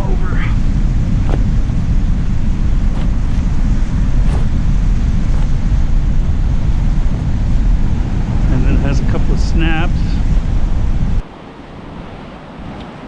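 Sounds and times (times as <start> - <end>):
surf: 0.0 - 10.9
wind buffeting microphone: 0.0 - 13.0.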